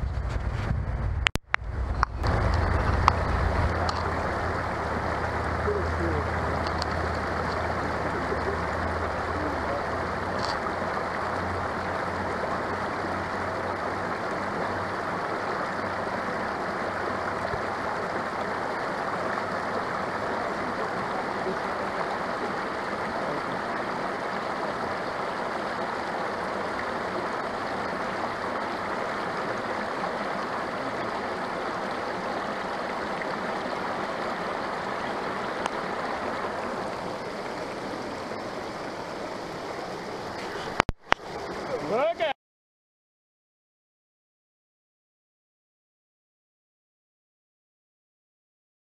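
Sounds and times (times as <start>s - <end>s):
creek water rushing over rocks: 1.5s - 42.4s.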